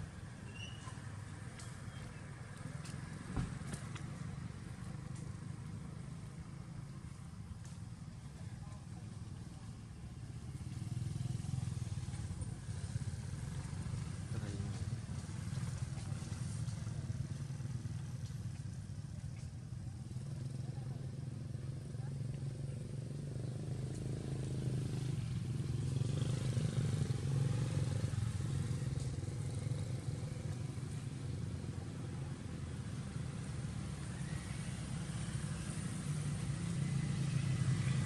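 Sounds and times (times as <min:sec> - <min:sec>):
traffic engine drone: 0:00.0 - 0:38.0.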